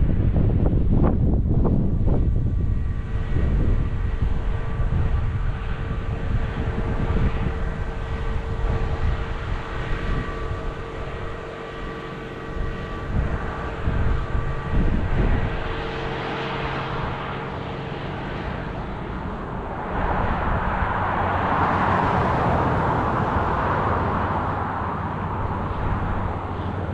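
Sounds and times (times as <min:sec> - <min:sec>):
farm machinery engine drone: 0:00.0 - 0:26.9.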